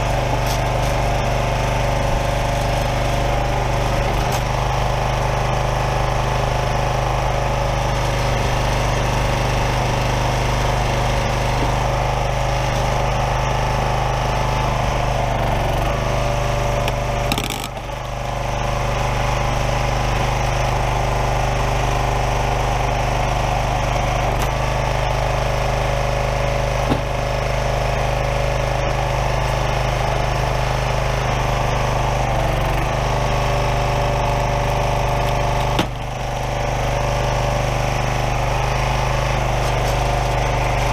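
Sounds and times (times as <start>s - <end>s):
log splitter splitting wood: 0.0s - 40.9s
small gas engine running: 0.0s - 40.9s.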